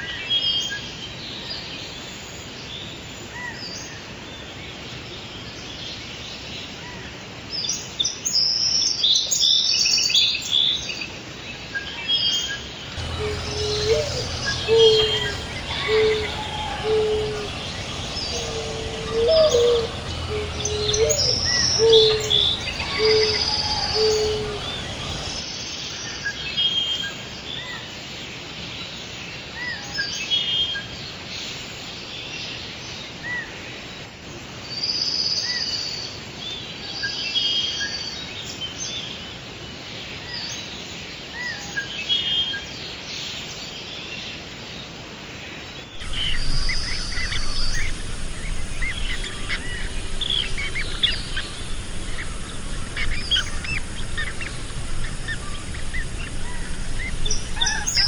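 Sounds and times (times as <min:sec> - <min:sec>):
background noise: 0:00.0 - 0:58.0
songbirds calling and chirping: 0:00.0 - 0:58.0.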